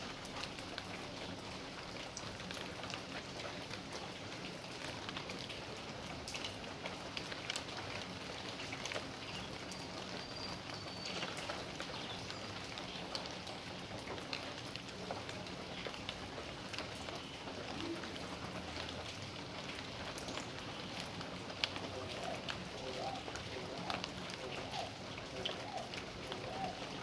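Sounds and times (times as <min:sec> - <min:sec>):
raindrops ticking and splashing: 0:00.0 - 0:27.0
steady rain hiss: 0:00.0 - 0:27.0.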